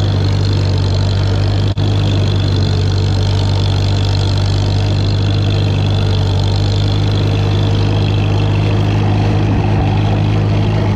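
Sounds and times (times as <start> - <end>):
tractor engine idling: 0.0 - 10.9.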